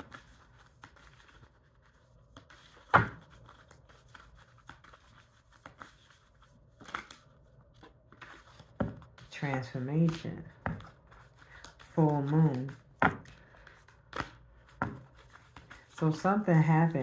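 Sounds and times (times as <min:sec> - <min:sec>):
cards tapping and rustling on cloth: 0:00.0 - 0:16.3.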